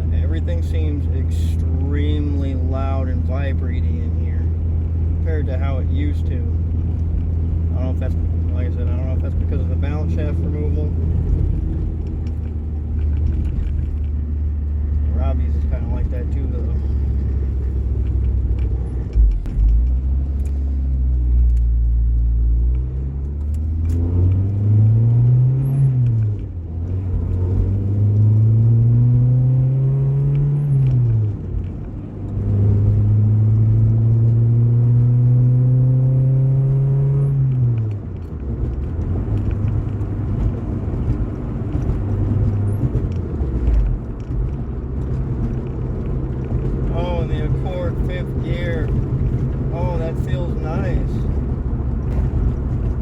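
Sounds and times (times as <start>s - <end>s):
car engine pulling through gears: 0.0s - 53.0s.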